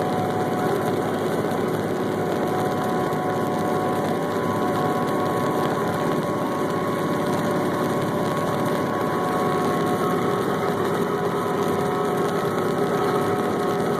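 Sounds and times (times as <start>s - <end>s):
drive whining: 0.0s - 13.9s
harvesting machinery engine hum: 0.0s - 13.9s
high-pitched whine: 0.0s - 13.9s.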